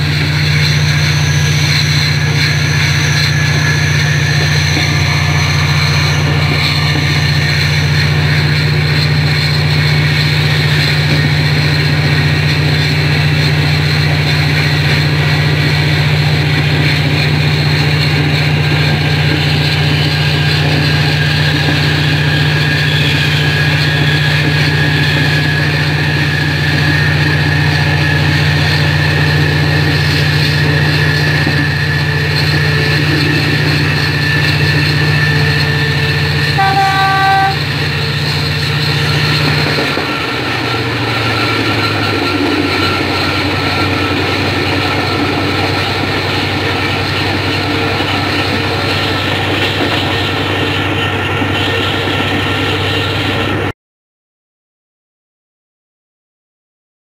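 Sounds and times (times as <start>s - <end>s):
diesel train engine drone: 0.0s - 53.7s.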